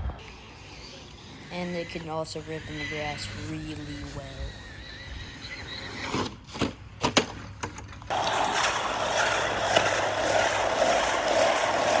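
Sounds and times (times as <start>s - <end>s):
rc car motor and tyres: 0.0s - 6.4s, 8.1s - 12.0s.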